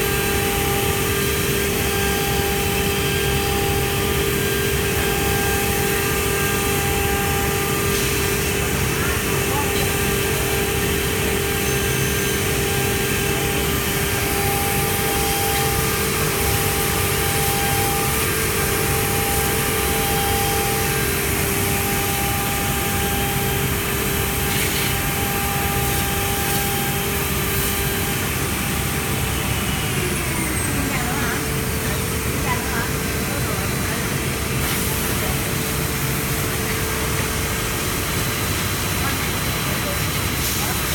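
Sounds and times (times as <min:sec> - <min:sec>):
machine whirring and humming: 0:00.0 - 0:40.9.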